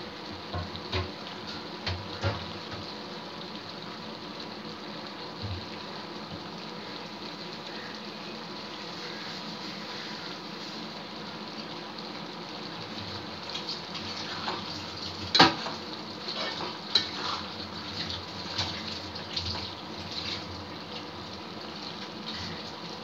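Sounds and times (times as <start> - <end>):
gravy simmering and bubbling: 0.0 - 23.0.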